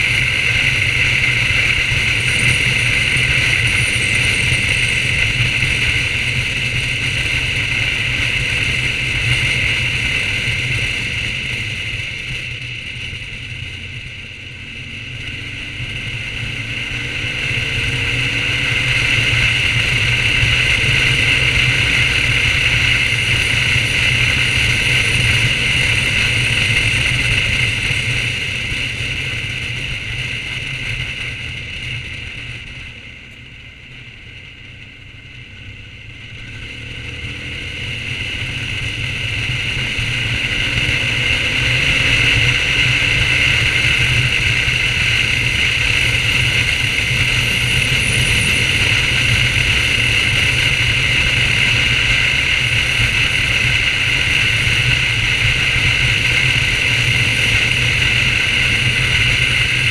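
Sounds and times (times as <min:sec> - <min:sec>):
motorcycle engine: 0:00.0 - 0:59.9
wind noise: 0:00.0 - 0:59.9.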